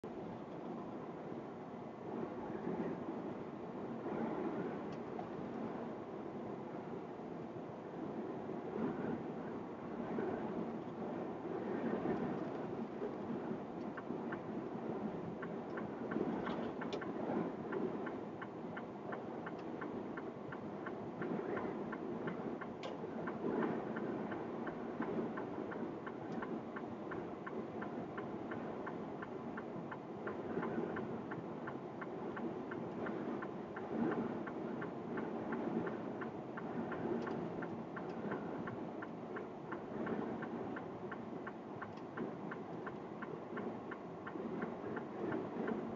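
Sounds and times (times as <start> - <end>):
road and engine noise in a cab: 0.0 - 45.9.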